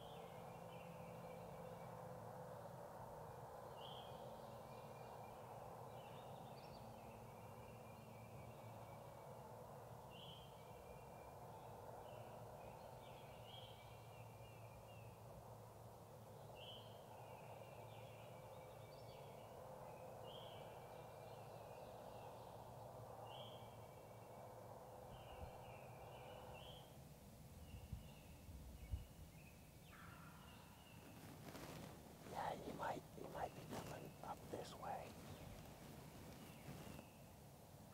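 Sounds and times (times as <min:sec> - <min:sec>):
songbird singing: 0:00.0 - 0:02.1, 0:03.6 - 0:15.3, 0:16.2 - 0:37.5
steady low hiss: 0:00.0 - 0:37.9.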